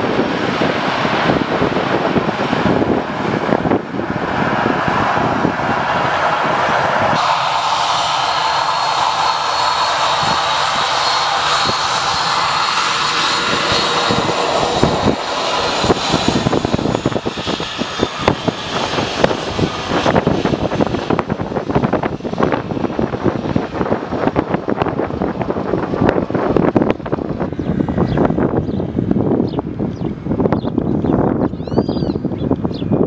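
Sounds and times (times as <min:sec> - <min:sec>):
turboprop engine roar with whine: 0:00.0 - 0:33.0
wind buffeting microphone: 0:00.0 - 0:33.0.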